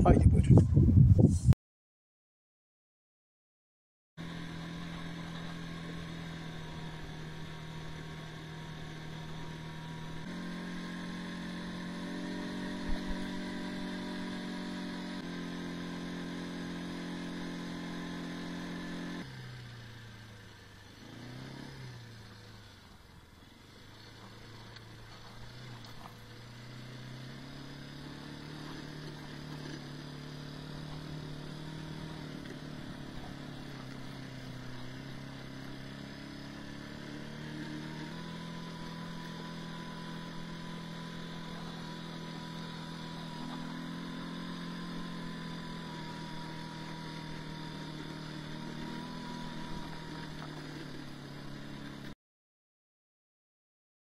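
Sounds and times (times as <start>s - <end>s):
vehicle engine running: 4.2s - 52.2s.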